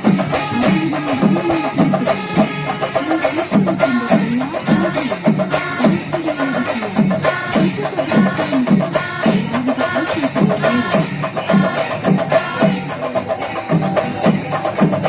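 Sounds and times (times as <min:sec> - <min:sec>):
percussion music with drum strokes: 0:00.0 - 0:15.0.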